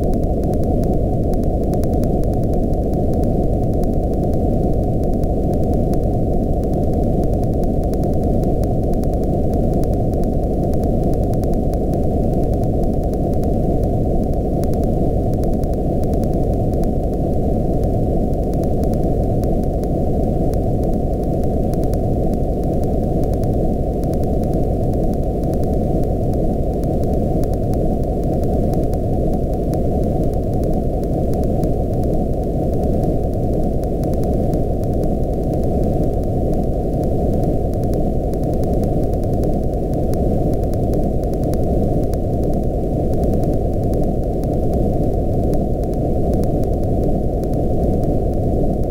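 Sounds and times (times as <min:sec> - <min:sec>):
faint fine ticking: 0:00.0 - 0:48.9.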